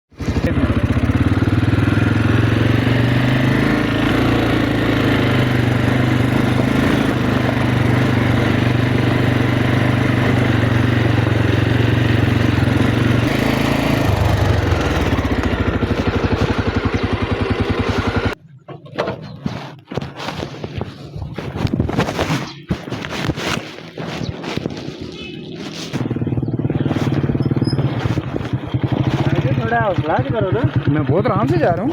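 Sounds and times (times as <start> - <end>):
motorcycle engine running: 0.1 - 18.6, 19.4 - 31.9.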